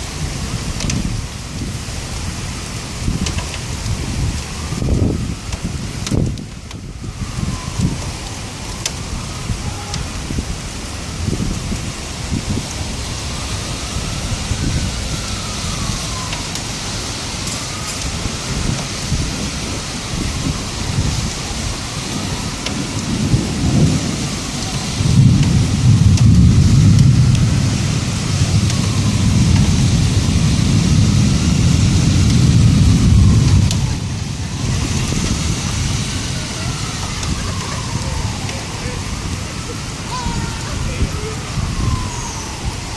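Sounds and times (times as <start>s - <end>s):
low rumbling gusts: 0.0s - 42.9s
torrential rain pouring: 0.0s - 42.9s.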